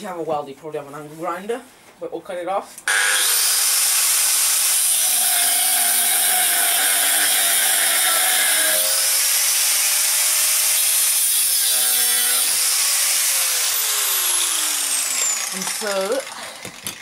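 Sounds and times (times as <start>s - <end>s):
angle grinder cutting steel: 2.9s - 17.0s.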